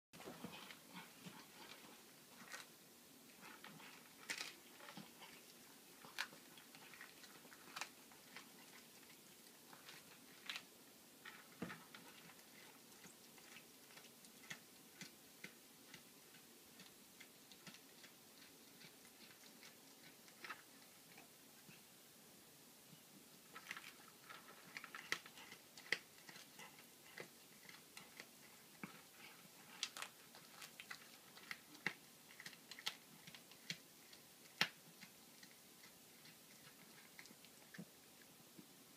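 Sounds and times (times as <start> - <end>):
cat chewing crunchily: 0.2 - 21.8, 23.4 - 38.3.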